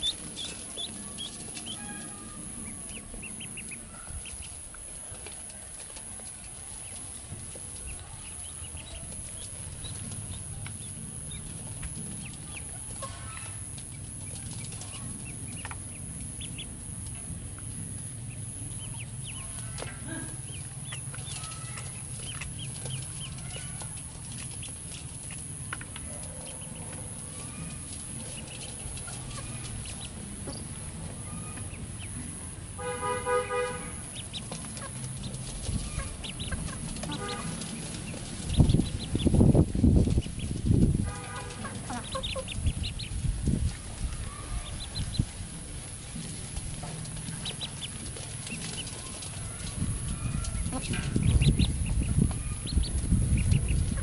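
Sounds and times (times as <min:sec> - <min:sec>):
ducklings peeping: 0:00.0 - 0:54.0.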